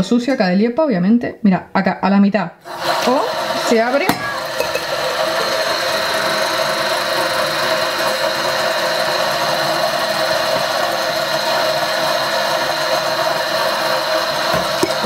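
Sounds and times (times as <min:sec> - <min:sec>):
tap water pouring into metal jug: 0:02.6 - 0:15.0.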